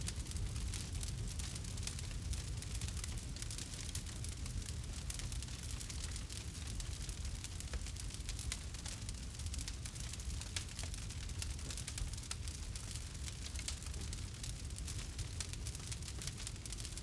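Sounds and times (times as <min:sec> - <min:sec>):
campfire crackling and popping: 0:00.0 - 0:17.0
low rumble of burning wood: 0:00.0 - 0:17.0.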